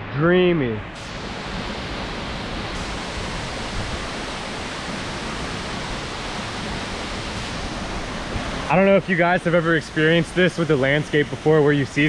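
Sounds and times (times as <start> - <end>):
waterfall rushing water: 1.0 - 12.0.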